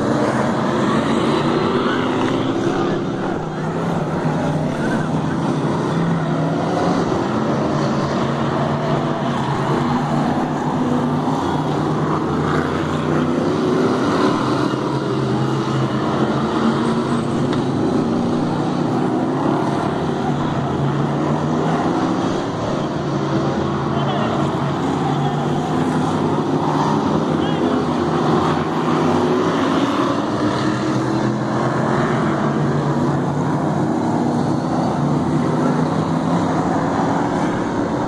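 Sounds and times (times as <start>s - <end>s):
race car engines droning: 0.0s - 38.0s.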